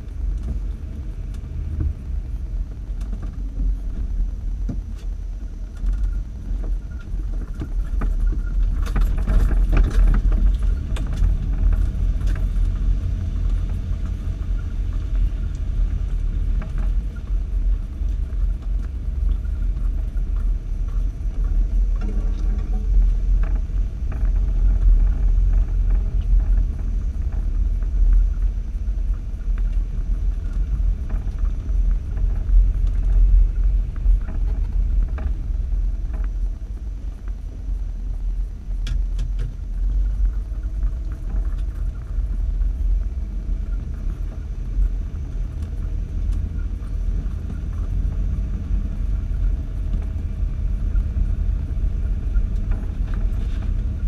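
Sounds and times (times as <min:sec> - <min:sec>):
muffled vehicle engine rumble: 0:00.0 - 0:54.0.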